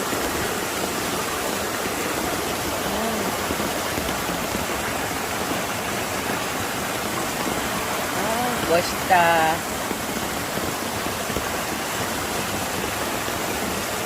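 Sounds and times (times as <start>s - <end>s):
rain falling: 0.0s - 14.0s
stream water rushing: 0.0s - 14.0s.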